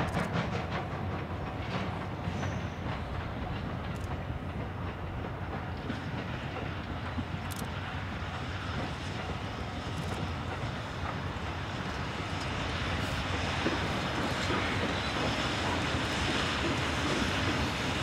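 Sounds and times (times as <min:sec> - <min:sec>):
steam locomotive exhaust roar: 0:00.0 - 0:18.0.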